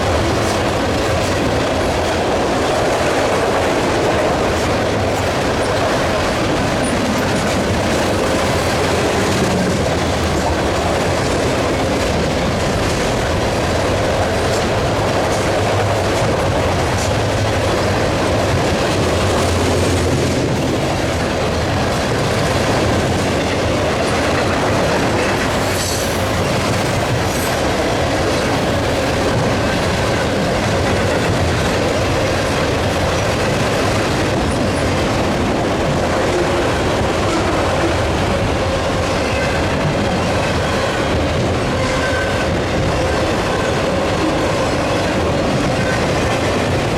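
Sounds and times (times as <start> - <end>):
train wheels on rails: 0.0 - 46.9
wheels clicking over rail joints: 0.0 - 46.9.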